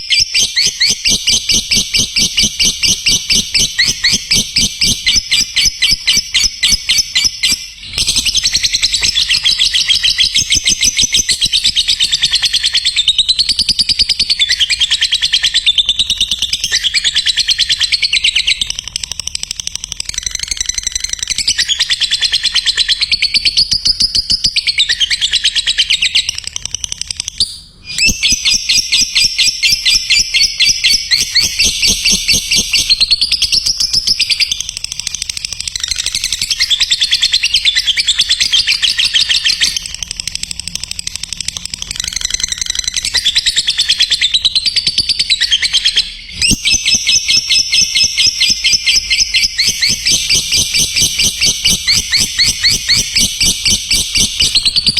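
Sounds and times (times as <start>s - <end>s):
lovebird shrill chattering song: 0.0s - 54.9s.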